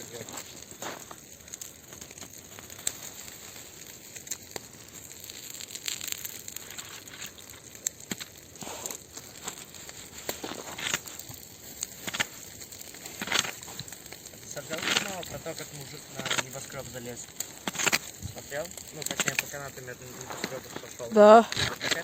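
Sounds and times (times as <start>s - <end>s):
bonfire crackling and popping: 0.0s - 22.0s
fire hissing: 0.0s - 22.0s.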